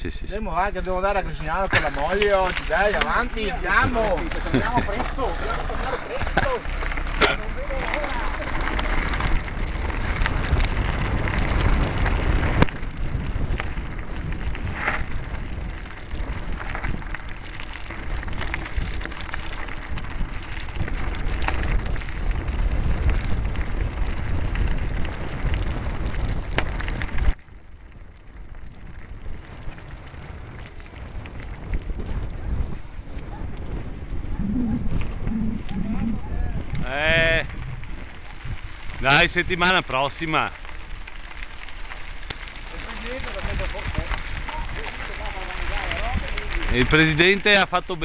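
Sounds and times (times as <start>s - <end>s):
wind on microphone: 0.0s - 39.9s, 40.6s - 48.0s
bike rattling: 0.0s - 48.0s
bike tyres crunching on gravel: 0.0s - 48.0s.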